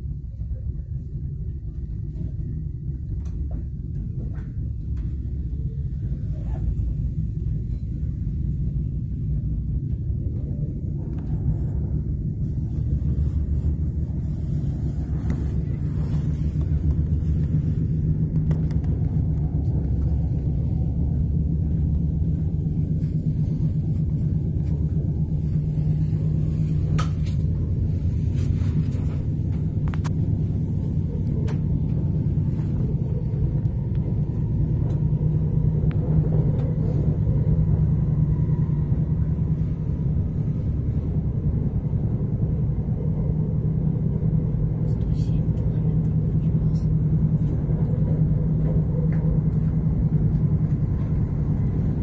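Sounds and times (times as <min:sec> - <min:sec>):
train interior low rumble: 0:00.0 - 0:52.0.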